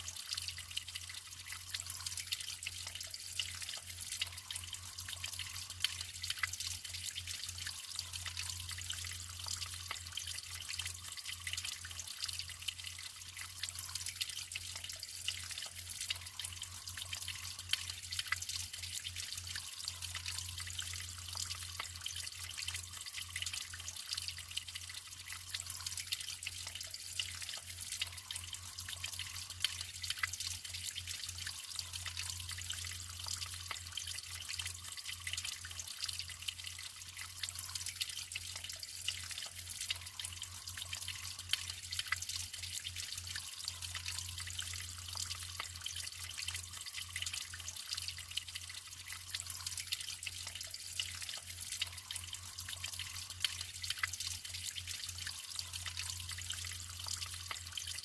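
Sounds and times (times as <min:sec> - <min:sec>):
water trickling and splashing: 0:00.0 - 0:58.0.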